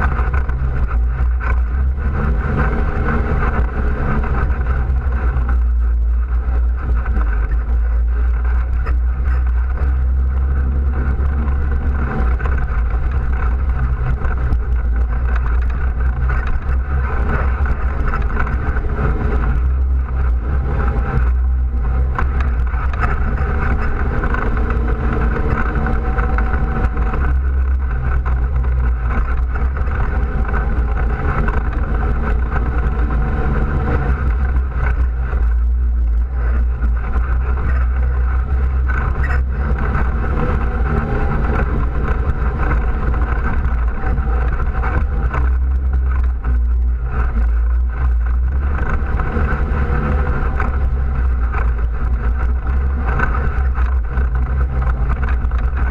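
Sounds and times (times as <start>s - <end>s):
all-terrain vehicle engine running: 0.0s - 55.9s.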